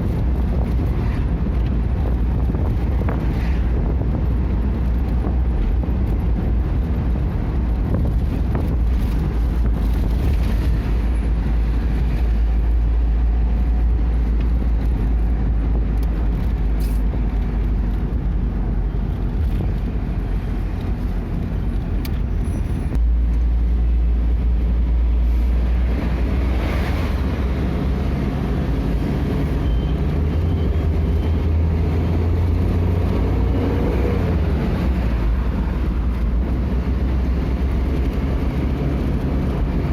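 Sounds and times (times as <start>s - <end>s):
vehicle road and engine rumble: 0.0s - 39.9s.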